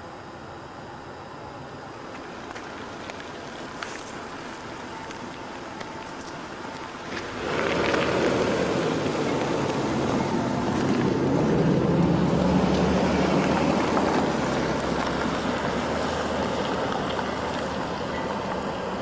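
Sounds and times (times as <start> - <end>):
train rumbling past: 2.4 - 19.0.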